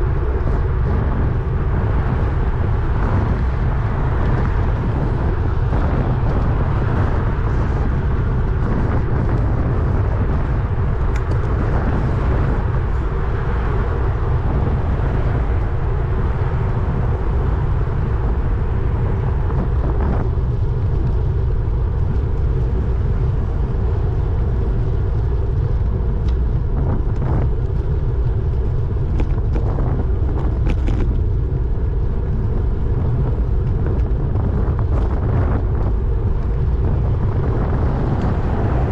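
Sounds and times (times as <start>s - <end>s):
wind and road noise rumble: 0.0s - 38.9s.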